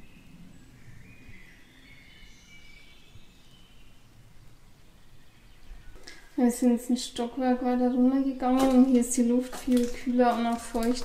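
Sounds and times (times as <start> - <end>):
faint outdoor background noise: 0.0 - 11.0
songbirds chirping and singing: 0.0 - 11.0.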